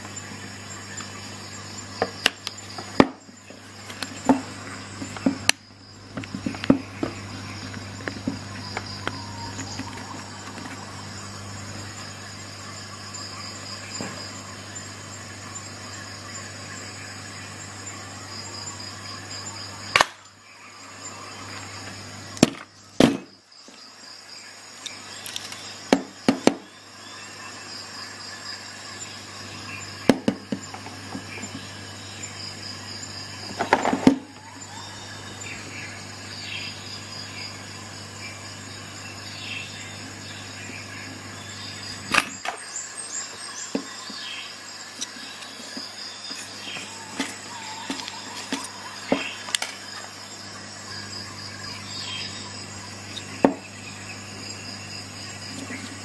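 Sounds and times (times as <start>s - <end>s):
faint high whine: 0.0s - 56.0s
low electrical hum: 0.0s - 56.0s.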